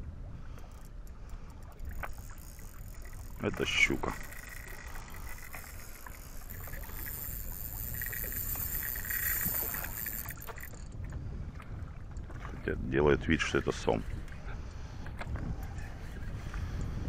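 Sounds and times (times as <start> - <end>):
water noise: 0.0 - 17.0
wind on a boat: 0.0 - 17.0.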